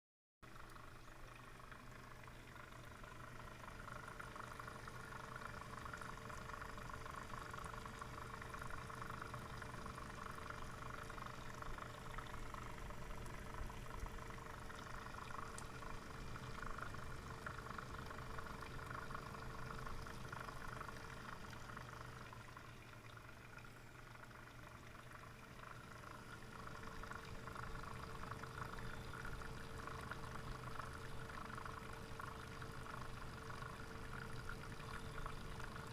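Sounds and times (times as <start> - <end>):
pump hum and whine: 0.4 - 35.9
liquid churning: 0.7 - 35.9.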